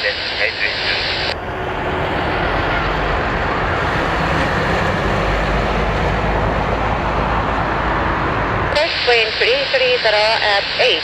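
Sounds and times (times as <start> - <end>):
faint engine whine: 0.0 - 10.9
jet engines roaring: 0.0 - 11.0.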